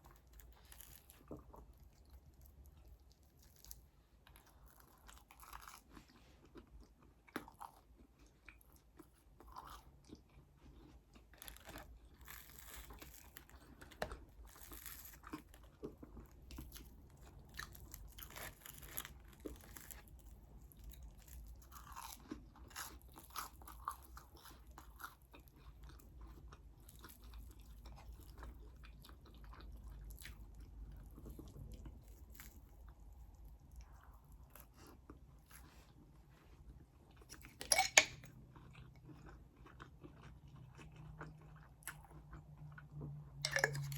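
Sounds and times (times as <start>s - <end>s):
food being chewed and crunched: 0.0s - 43.9s.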